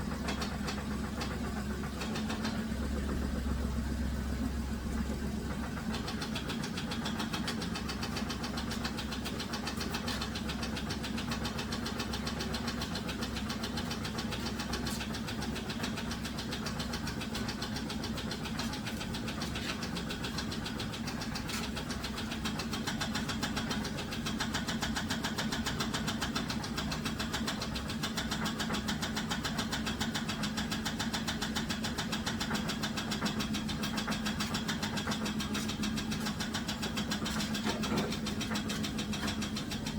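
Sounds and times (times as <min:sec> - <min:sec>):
car engine running: 0:00.0 - 0:39.9
rapid regular engine knock: 0:00.0 - 0:39.9.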